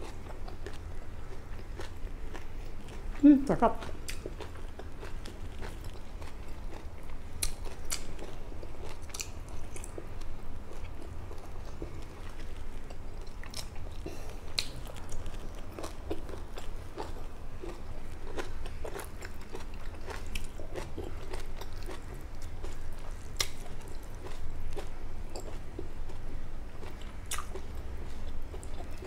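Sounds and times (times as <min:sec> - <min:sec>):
person chewing food: 0:00.0 - 0:03.2, 0:03.8 - 0:29.0
low steady hum: 0:00.0 - 0:29.0.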